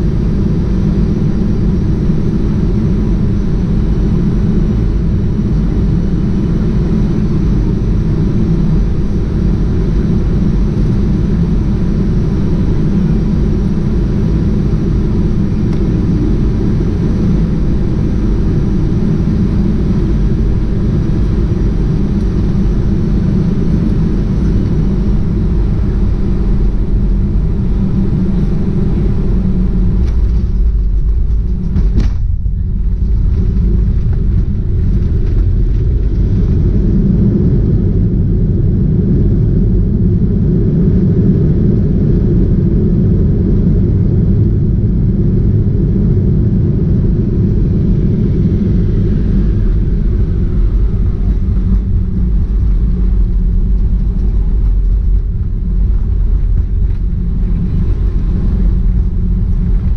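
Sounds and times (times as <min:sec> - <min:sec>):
airliner cabin rumble: 0:00.0 - 0:59.9
faint steady hum: 0:00.0 - 0:59.9.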